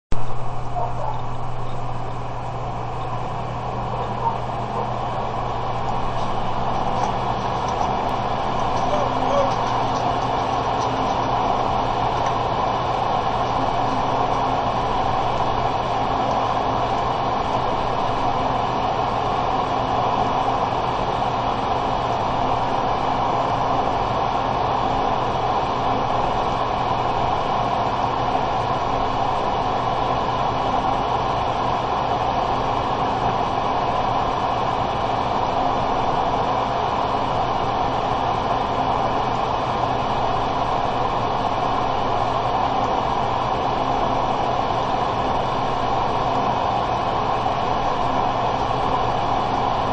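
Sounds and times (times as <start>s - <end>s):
low hum: 0.1s - 49.9s
steady rushing noise: 0.1s - 49.9s.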